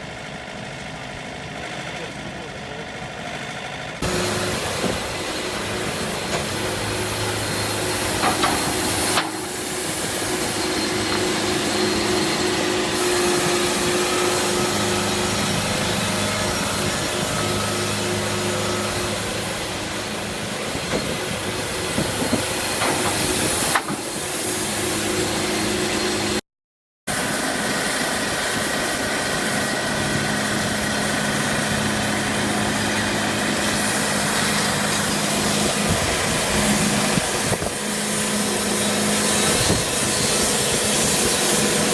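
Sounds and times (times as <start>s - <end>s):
engine drone: 0.0s - 26.4s, 27.1s - 41.9s.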